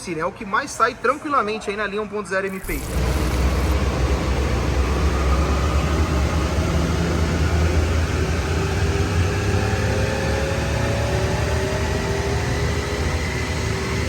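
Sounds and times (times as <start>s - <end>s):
car engine exhaust drone: 2.6s - 14.0s.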